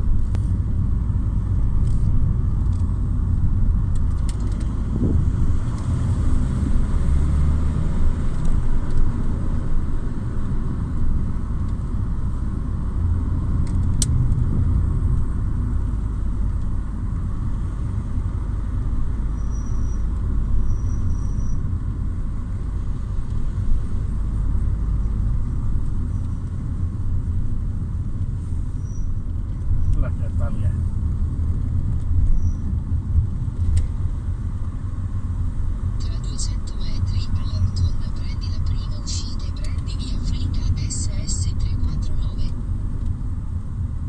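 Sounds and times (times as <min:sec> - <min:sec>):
car road and engine rumble: 0:00.0 - 0:44.0.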